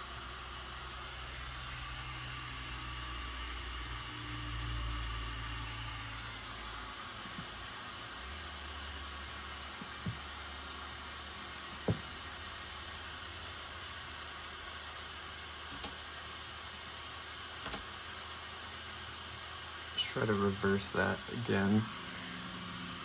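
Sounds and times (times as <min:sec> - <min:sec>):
fan-like hiss with hum: 0:00.0 - 0:23.0.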